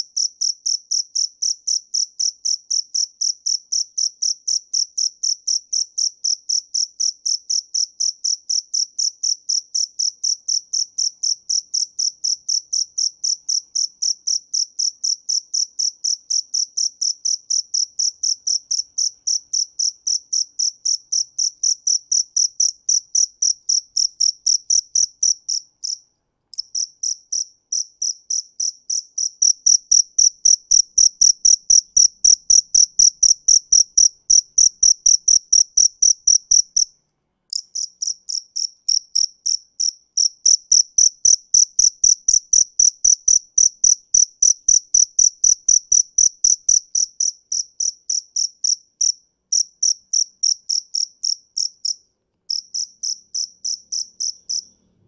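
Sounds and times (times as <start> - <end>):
cricket chirping: 0.0 - 36.9, 37.5 - 54.8.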